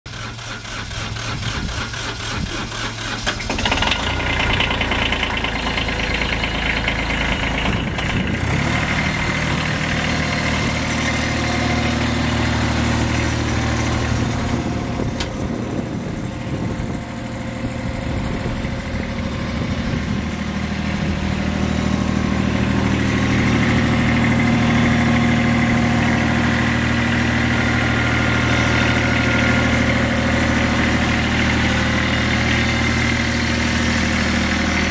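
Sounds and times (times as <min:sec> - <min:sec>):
backhoe diesel engine running: 0:00.1 - 0:34.9.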